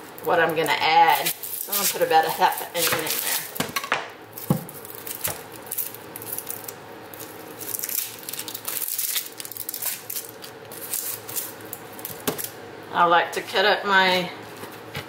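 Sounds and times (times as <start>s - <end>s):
onion skin crackling: 0.0s - 12.6s.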